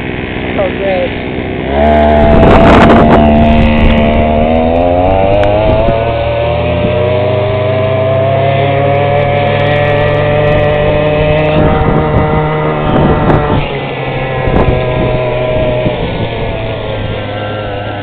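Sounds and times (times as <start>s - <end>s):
scooter engine revving: 0.0s - 18.0s.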